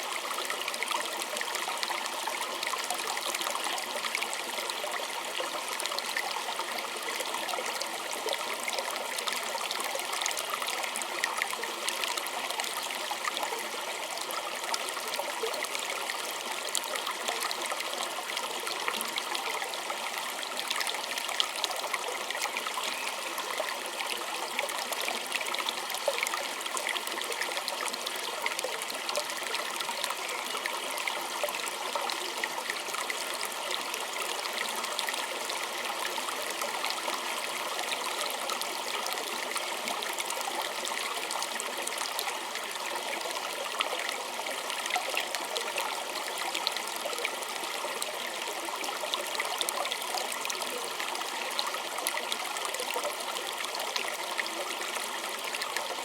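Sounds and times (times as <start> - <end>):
creek flowing over stones: 0.0 - 56.0.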